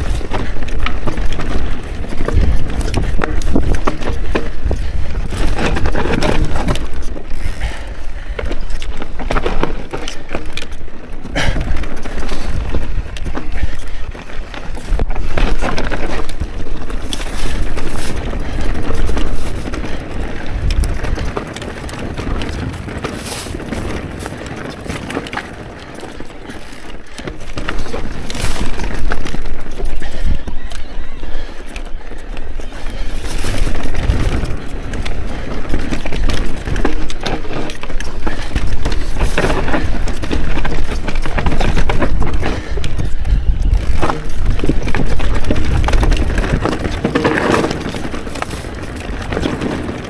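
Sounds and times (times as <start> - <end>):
wind on microphone: 0.0 - 10.8, 11.4 - 50.0
bike rattling over rocks: 0.0 - 50.0.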